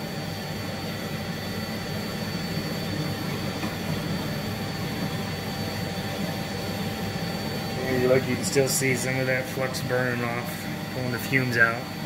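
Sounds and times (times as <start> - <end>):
electric blowers whirring: 0.0 - 12.0
thin whines: 0.0 - 12.0.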